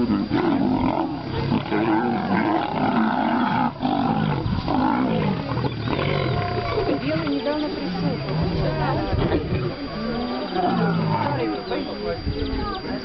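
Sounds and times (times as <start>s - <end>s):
lions growling and snarling: 0.0s - 11.6s.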